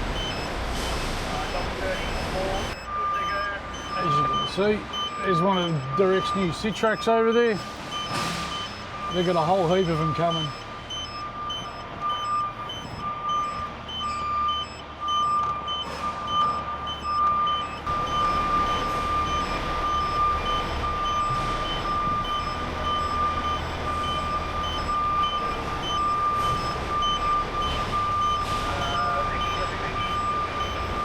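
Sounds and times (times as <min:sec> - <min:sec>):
truck diesel engine rumble: 0:00.0 - 0:31.0
reversing alarm beeping: 0:00.1 - 0:31.0.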